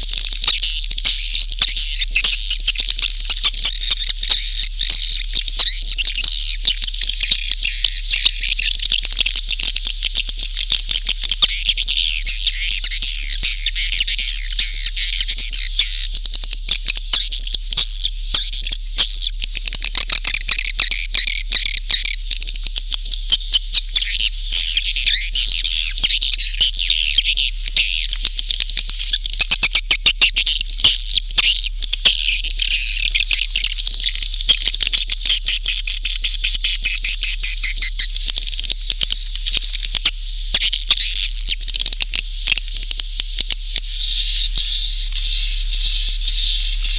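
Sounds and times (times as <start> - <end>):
swiftlets chirping and twittering: 0.0 - 22.2, 23.0 - 46.9
low steady hum: 0.0 - 46.9.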